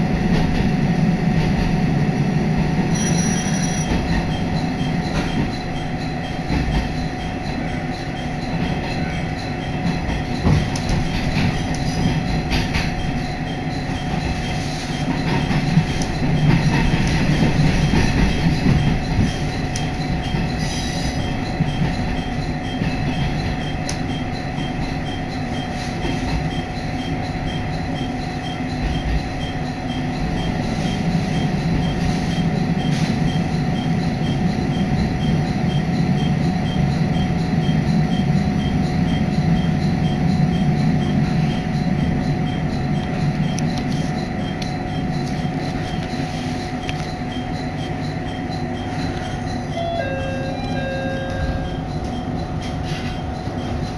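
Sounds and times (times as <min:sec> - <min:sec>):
railcar engine and wheels rumble: 0:00.0 - 0:53.9.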